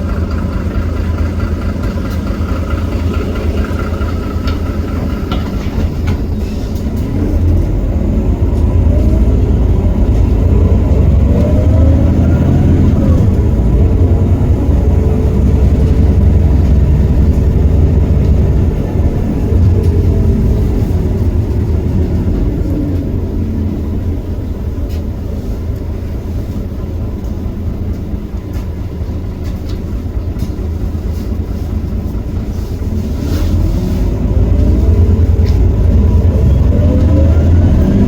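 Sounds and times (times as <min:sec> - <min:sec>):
bus diesel engine pulling: 0:00.0 - 0:38.0.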